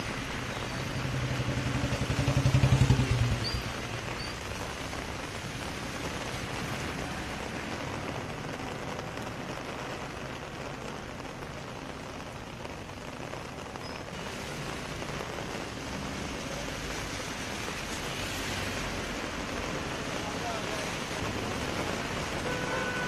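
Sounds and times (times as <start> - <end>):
heavy rain splashing into water: 0.0 - 23.0.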